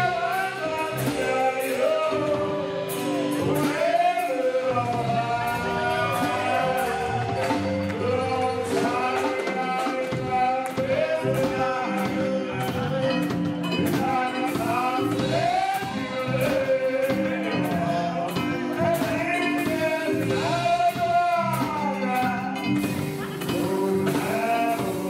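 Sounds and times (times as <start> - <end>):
bass guitar: 0.0 - 25.0
drum kit: 0.0 - 25.0
keyboard: 0.0 - 25.0
man singing into a microphone: 0.0 - 25.0.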